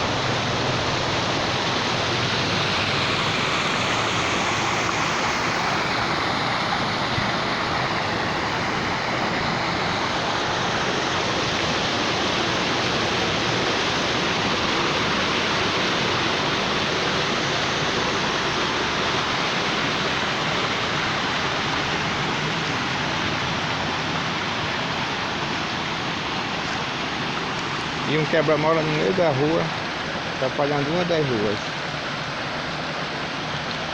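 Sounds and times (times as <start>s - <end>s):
heavy rain pouring: 0.0s - 33.9s
rainwater rushing along street: 0.0s - 33.9s.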